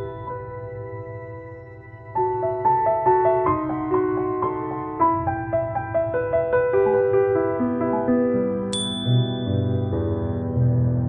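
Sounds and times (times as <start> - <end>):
soft piano notes: 0.0 - 11.0.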